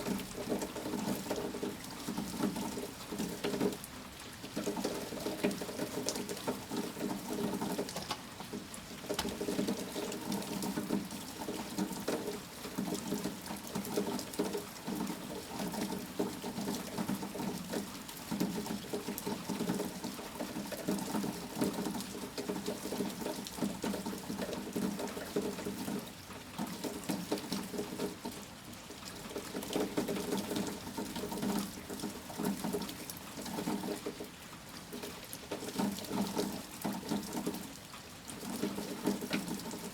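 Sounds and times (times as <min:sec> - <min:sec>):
rain pattering and splashing: 0:00.0 - 0:39.9.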